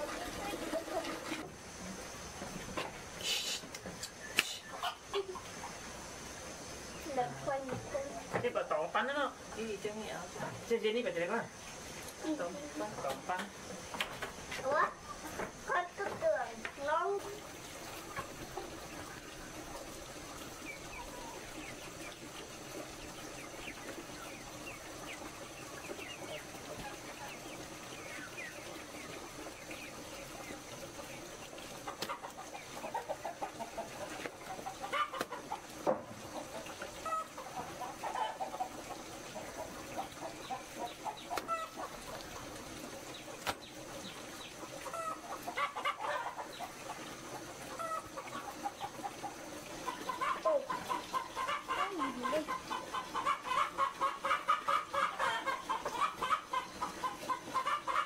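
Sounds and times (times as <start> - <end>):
chickens clucking: 0.0 - 58.0
steady background hiss: 0.0 - 58.0.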